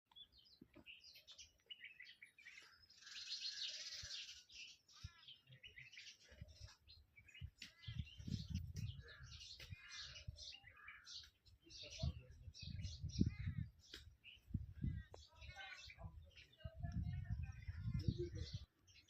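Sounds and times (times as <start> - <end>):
many birds chirping and calling: 0.1 - 19.0.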